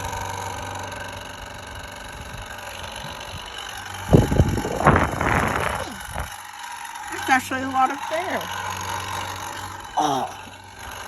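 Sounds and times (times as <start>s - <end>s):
hair dryer motor humming: 0.0s - 11.0s.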